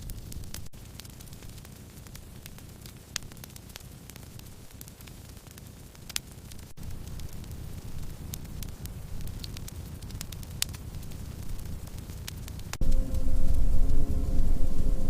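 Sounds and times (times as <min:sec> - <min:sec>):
sharp fire pops: 0:00.0 - 0:14.5
campfire burning: 0:00.0 - 0:15.0
wood crackling: 0:00.0 - 0:15.0.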